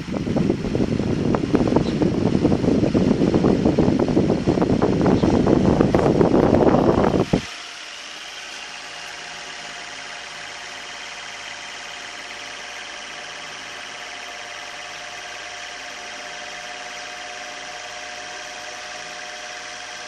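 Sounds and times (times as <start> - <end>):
wall fan running: 0.0 - 20.0.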